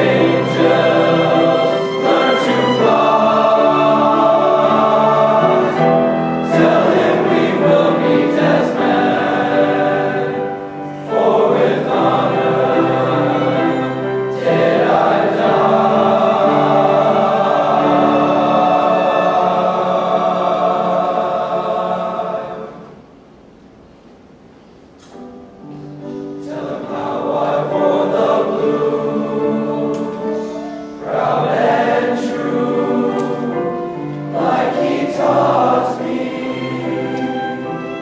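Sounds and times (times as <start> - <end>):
male choir singing: 0.0 - 23.0, 26.4 - 38.0.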